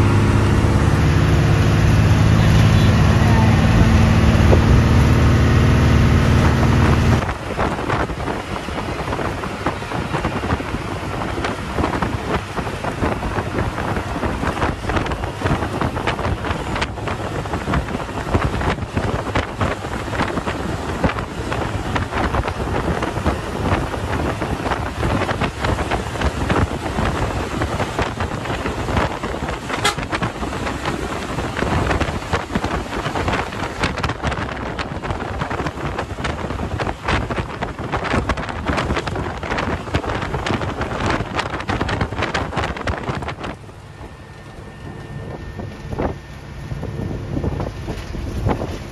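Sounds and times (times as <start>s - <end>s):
bus engine droning: 0.0s - 48.9s
wind buffeting microphone: 0.0s - 48.9s.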